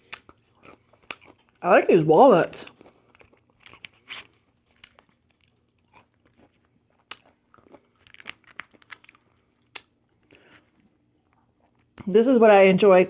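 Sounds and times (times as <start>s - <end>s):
crunching and chewing food: 0.0s - 12.1s.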